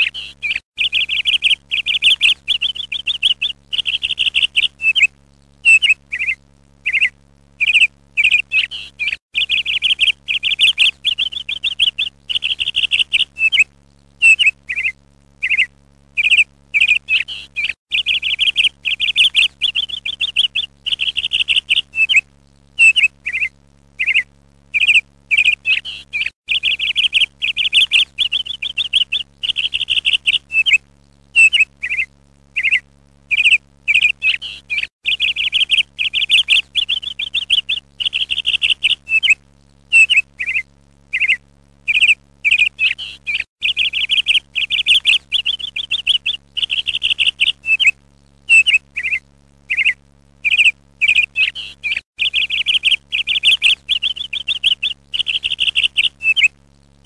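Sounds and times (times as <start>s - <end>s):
songbird singing: 0.0s - 56.6s
faint low hum: 0.0s - 57.0s.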